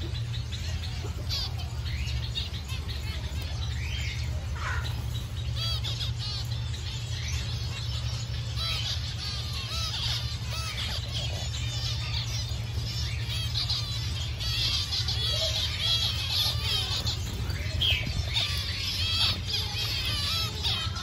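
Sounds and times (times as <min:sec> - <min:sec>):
finches calling and singing: 0:00.0 - 0:21.0.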